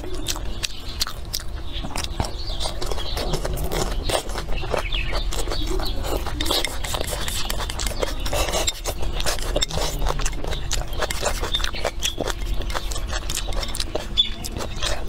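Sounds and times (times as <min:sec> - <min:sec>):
chewing with lip smacks: 0:00.0 - 0:15.0
chopsticks scraping a bowl: 0:02.4 - 0:15.0.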